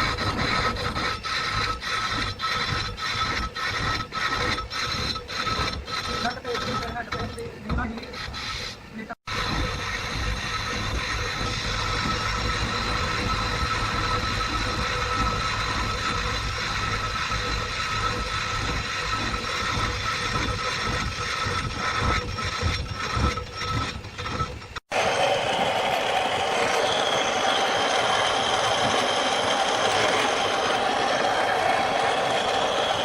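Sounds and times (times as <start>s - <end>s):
steady machine noise: 0.0s - 33.0s
workshop machinery whining: 0.0s - 33.0s.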